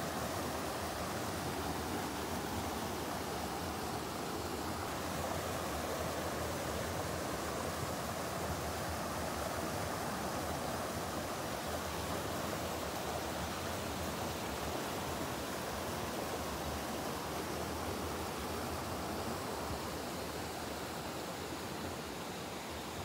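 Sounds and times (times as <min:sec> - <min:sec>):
rush of falling water: 0:00.0 - 0:23.0.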